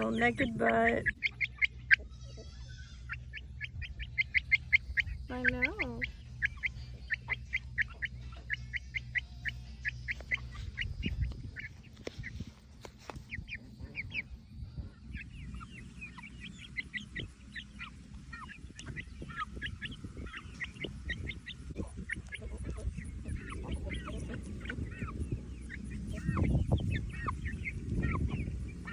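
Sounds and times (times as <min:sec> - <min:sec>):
chick peeping: 0:00.0 - 0:28.9
low steady rumble: 0:00.0 - 0:28.9.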